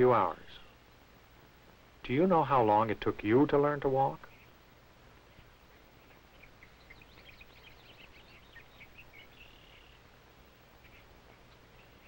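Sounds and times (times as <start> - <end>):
small birds chirping: 0.0 - 12.0
steady hiss and low hum: 0.0 - 12.0.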